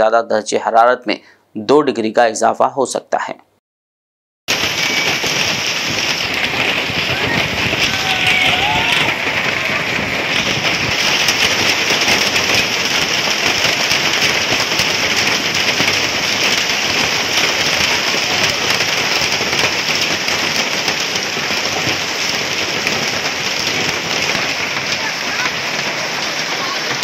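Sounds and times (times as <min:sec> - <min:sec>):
hailstones striking surfaces: 0:04.5 - 0:27.0
heavy rain hissing: 0:04.5 - 0:27.0.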